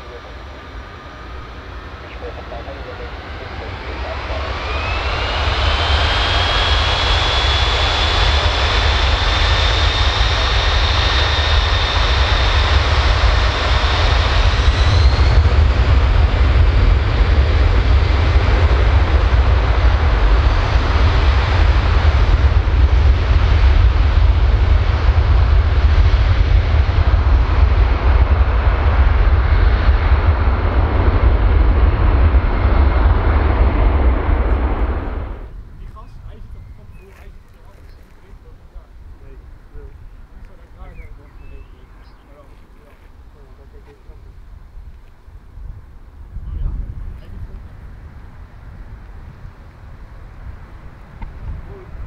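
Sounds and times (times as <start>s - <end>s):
jet engines spooling up: 0.0s - 45.4s
heavy jet engine roar: 0.0s - 52.0s
jet engine whine: 0.0s - 52.0s.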